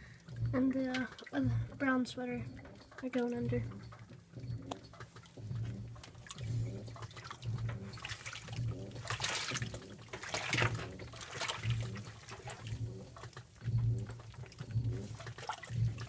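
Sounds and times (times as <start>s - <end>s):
washer motor low hum: 0.0s - 16.0s
water sloshing in washer: 0.0s - 16.0s.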